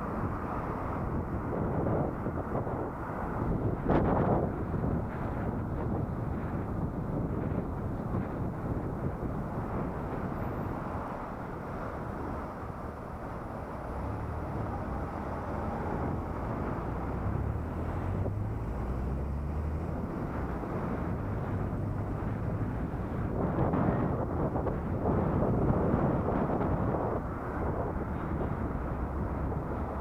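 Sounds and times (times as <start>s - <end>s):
low engine hum: 0.0s - 30.0s
wind and road noise rushing: 0.0s - 30.0s.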